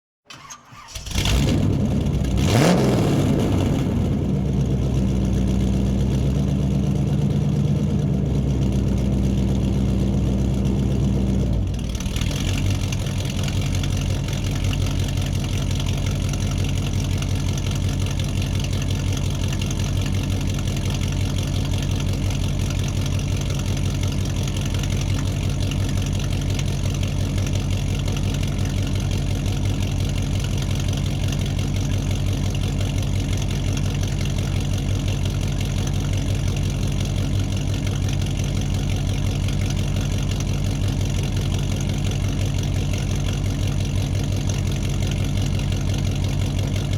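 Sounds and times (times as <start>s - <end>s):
car engine starting and idling: 0.3s - 46.9s.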